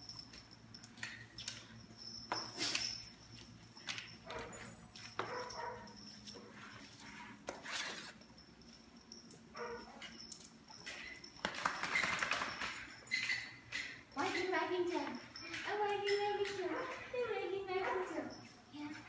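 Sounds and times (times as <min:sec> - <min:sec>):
dogs scuffling and claws clicking: 0:00.0 - 0:19.0.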